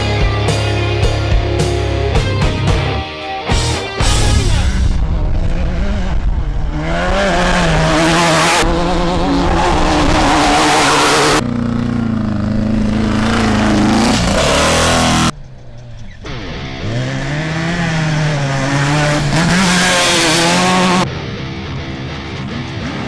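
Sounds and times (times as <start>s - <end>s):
race vehicle engines revving: 4.0s - 23.0s.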